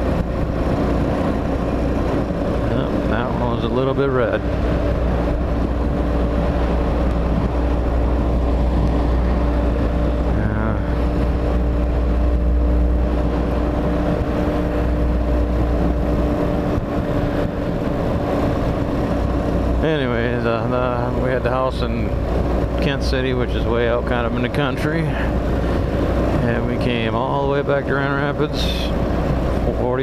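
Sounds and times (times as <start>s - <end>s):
motorcycle engine cruising: 0.0s - 30.0s
wind rumble on microphone: 0.0s - 30.0s.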